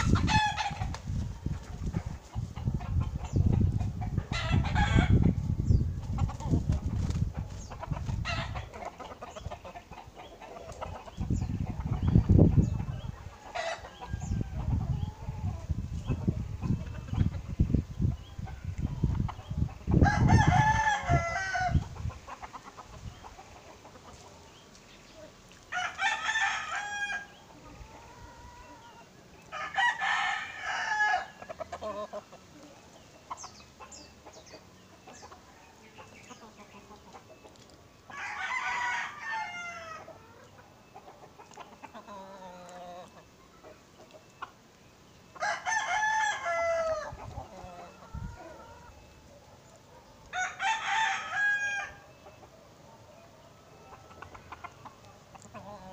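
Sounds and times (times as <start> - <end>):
roosters crowing: 0.0 - 24.6, 25.7 - 32.6, 38.0 - 44.0, 45.3 - 55.9.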